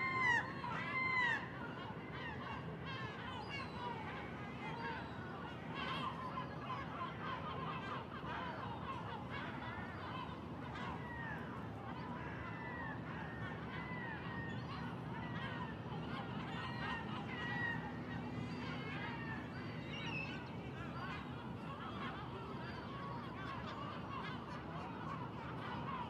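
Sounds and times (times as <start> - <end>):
bird calls: 0.0 - 26.0
steady background noise: 0.0 - 26.0.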